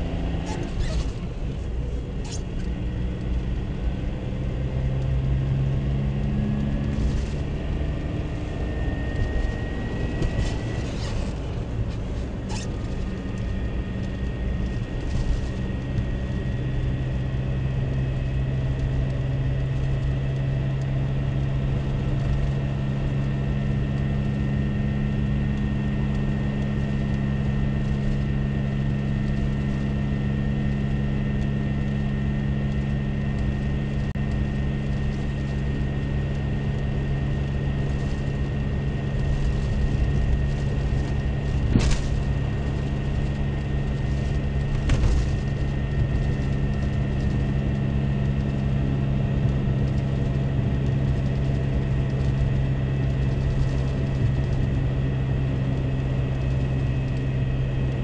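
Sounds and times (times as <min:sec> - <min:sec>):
car engine drone: 0:00.0 - 0:58.0
tyre noise on snowy road: 0:00.0 - 0:58.0.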